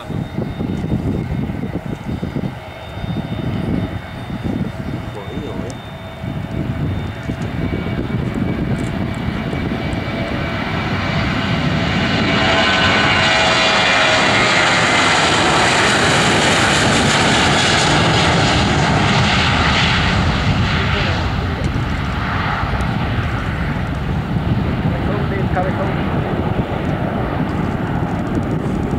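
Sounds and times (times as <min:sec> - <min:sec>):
jet engines roaring at takeoff: 0:00.0 - 0:28.9.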